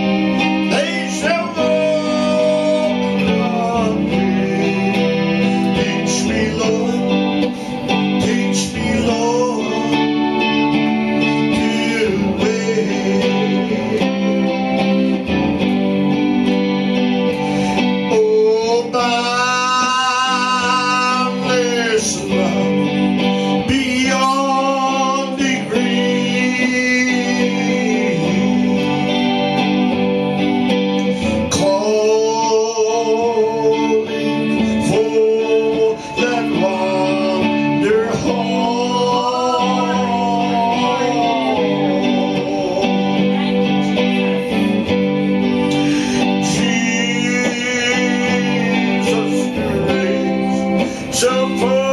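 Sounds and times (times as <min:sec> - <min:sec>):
person singing with vibrato: 0:00.0 - 0:51.9
strummed guitar: 0:00.0 - 0:51.9.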